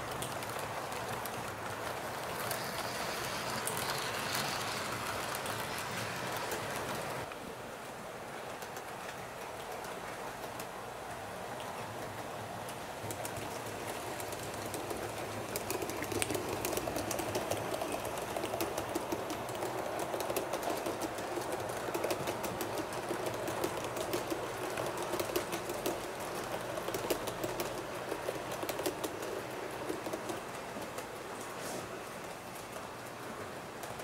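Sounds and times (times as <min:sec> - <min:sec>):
model train wheels rumbling: 0:00.0 - 0:07.3, 0:08.3 - 0:34.0.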